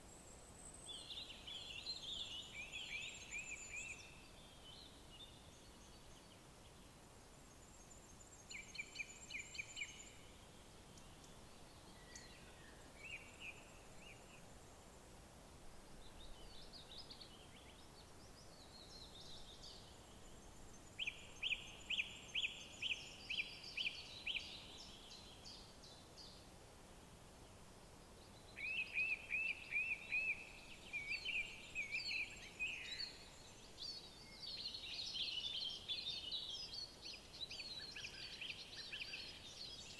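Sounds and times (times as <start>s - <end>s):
songbirds singing: 0.0s - 15.1s, 16.0s - 26.5s, 27.4s - 39.9s
faint steady background hiss: 0.0s - 39.9s.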